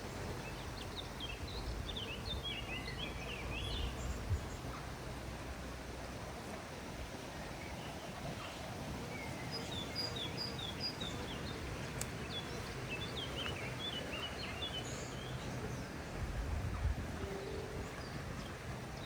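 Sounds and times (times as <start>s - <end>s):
songbird singing: 0.0s - 6.0s, 7.4s - 19.0s
outdoor background hiss: 0.0s - 19.0s.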